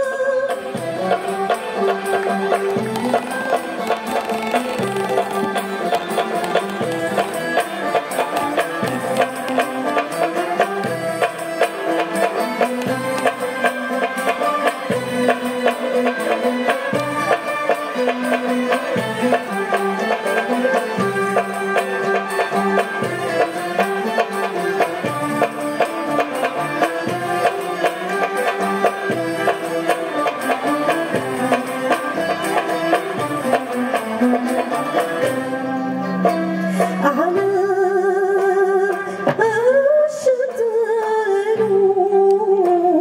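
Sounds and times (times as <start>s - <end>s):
string ensemble playing plucked notes: 0.0s - 43.0s.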